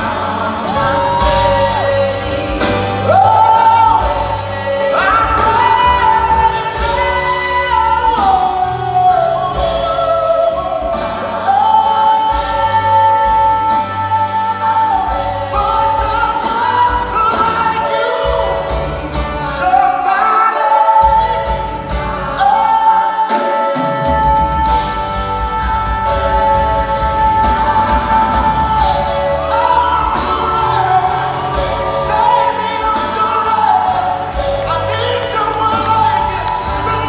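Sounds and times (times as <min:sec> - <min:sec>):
upright bass: 0:00.0 - 0:22.9, 0:23.8 - 0:37.0
drums: 0:00.0 - 0:37.0
piano: 0:00.0 - 0:37.0
singers in harmony: 0:00.0 - 0:37.0.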